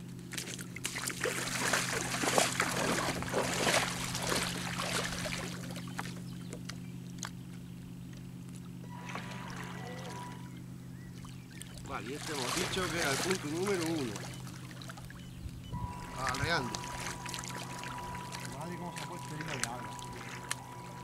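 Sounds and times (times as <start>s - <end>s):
steady low hum: 0.0s - 21.0s
wading splashes in water: 0.1s - 7.6s, 8.4s - 21.0s.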